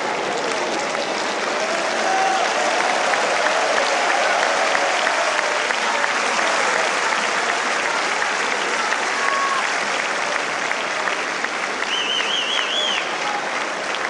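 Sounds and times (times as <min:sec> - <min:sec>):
stadium crowd applauding: 0:00.0 - 0:14.0.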